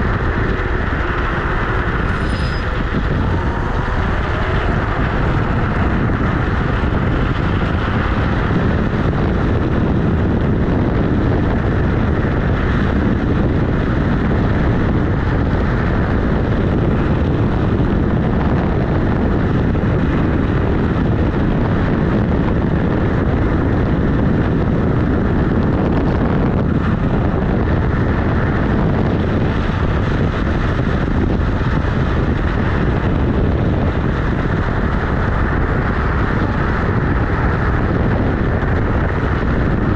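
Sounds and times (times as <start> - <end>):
scooter tyre rolling on asphalt: 0.0 - 39.9
wind buffeting microphone: 0.0 - 39.9.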